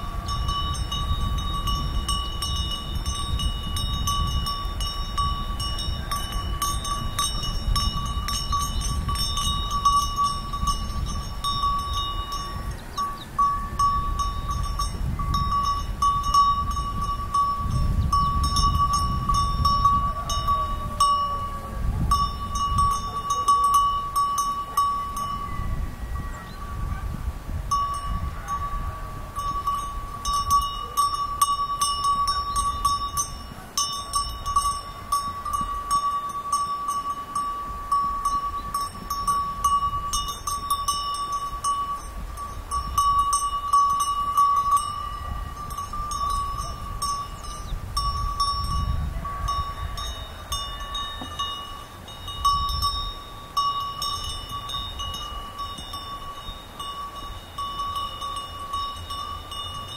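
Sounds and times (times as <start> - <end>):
sheep bells clanking: 0.0 - 59.9.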